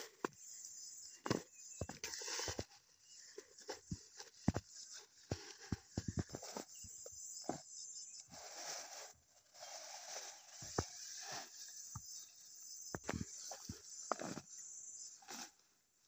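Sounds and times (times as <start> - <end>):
rustling of leafy undergrowth: 1.2 - 15.7.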